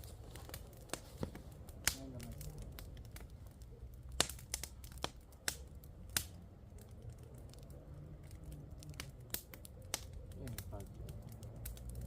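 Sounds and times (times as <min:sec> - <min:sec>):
firewood crackling and snapping: 0:00.0 - 0:12.0.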